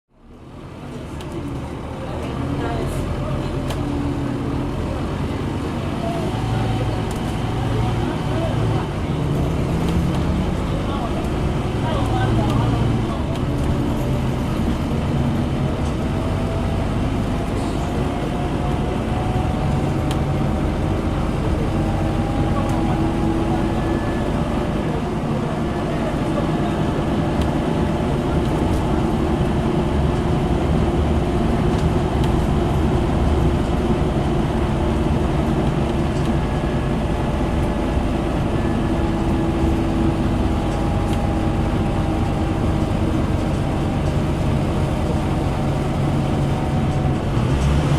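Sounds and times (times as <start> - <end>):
bus diesel engine drone: 0.1 - 47.9.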